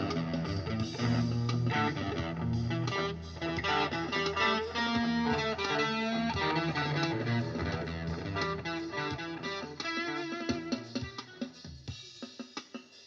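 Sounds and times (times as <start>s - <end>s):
electric guitar with effects: 0.0s - 11.7s.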